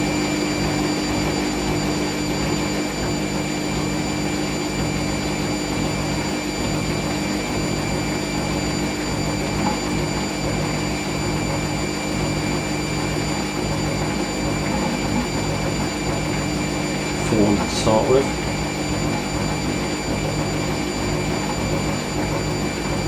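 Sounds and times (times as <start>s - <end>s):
washing machine spinning: 0.0s - 23.0s.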